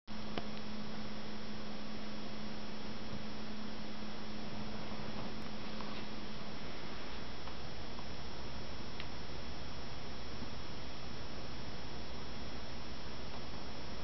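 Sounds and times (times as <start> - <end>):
constant hiss: 0.1 - 14.0
steady electrical hum: 0.1 - 14.0.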